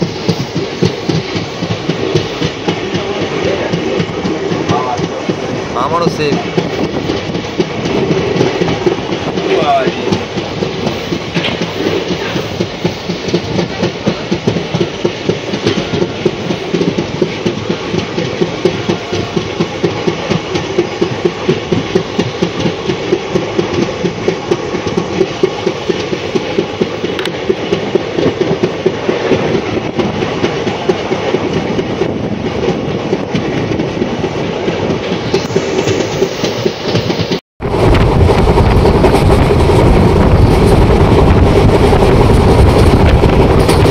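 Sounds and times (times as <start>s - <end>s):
train rumbling at speed: 0.0s - 43.9s.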